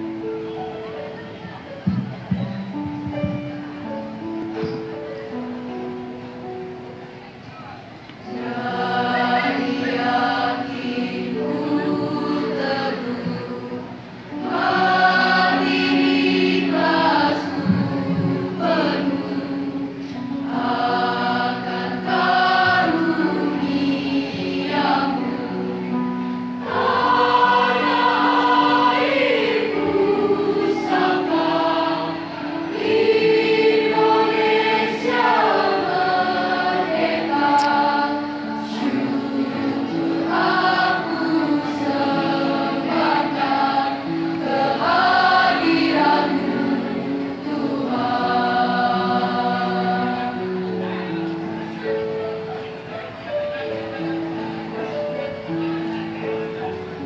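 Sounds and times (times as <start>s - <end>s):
children's choir singing: 0.0s - 7.3s, 8.0s - 57.0s
electronic keyboard accompaniment: 0.0s - 57.0s.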